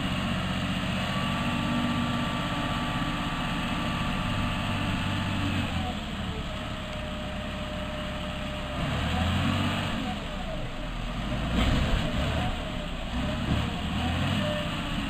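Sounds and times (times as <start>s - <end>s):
heavy machine engine under load: 0.0s - 15.0s.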